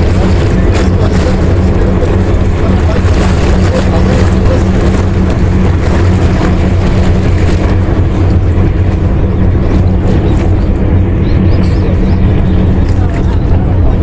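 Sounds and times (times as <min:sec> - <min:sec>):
motor droning: 0:00.0 - 0:14.0.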